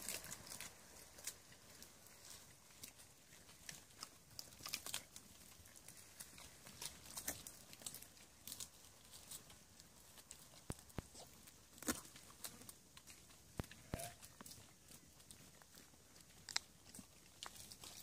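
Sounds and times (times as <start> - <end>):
sheep chewing cane stalks: 0.0 - 18.0.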